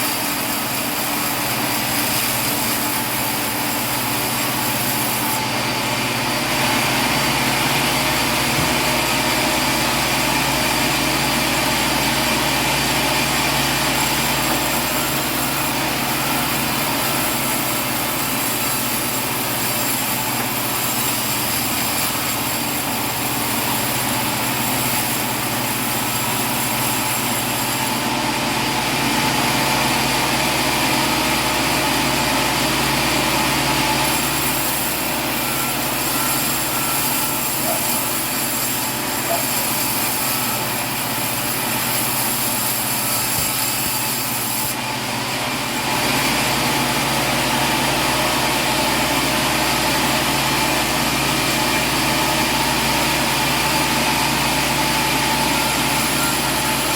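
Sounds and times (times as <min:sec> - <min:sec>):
sawmill machinery drone: 0:00.0 - 0:56.9.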